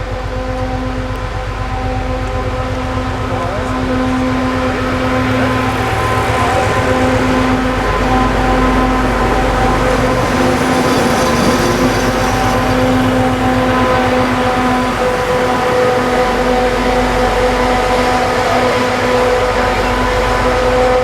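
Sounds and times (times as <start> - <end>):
diesel locomotive engine pulsing: 0.0 - 21.0
steady multi-tone whine: 0.0 - 21.0.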